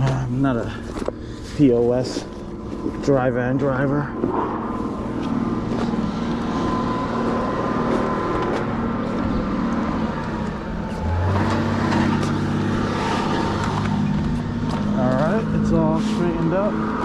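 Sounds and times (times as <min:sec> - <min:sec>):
deep hum: 0:00.0 - 0:17.0
truck engine running: 0:00.0 - 0:17.0.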